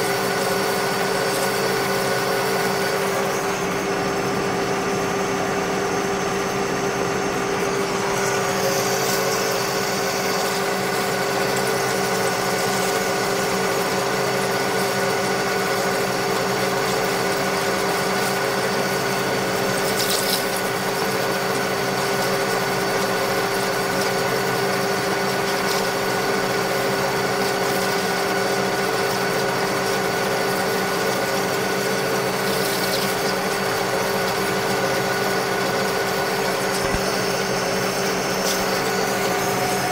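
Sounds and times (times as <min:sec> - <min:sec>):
metal lathe humming and whining: 0:00.0 - 0:39.9.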